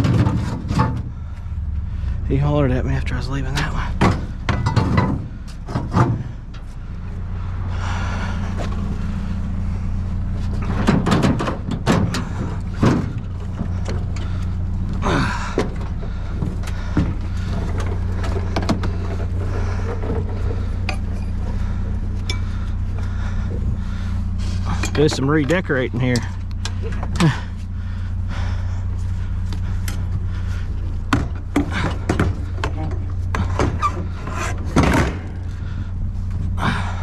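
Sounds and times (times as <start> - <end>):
engine and road drone: 0.0 - 37.0.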